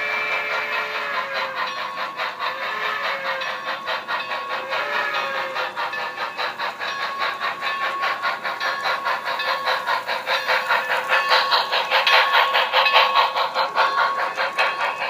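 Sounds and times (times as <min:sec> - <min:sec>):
model train sound decoder: 0:00.0 - 0:15.0.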